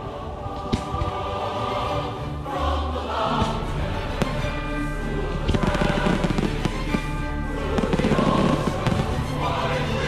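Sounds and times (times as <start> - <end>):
music playing: 0.0 - 10.0.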